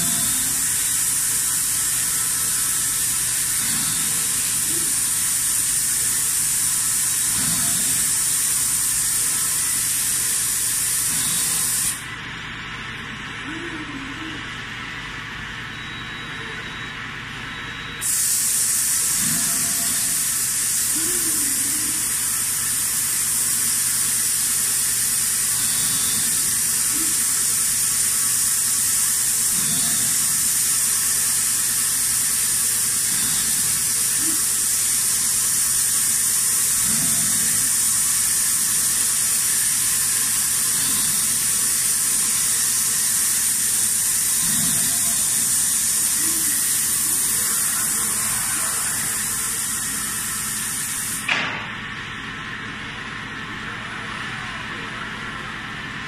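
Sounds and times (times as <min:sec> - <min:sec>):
steady loud hiss: 0:00.0 - 0:12.2, 0:18.0 - 0:51.8.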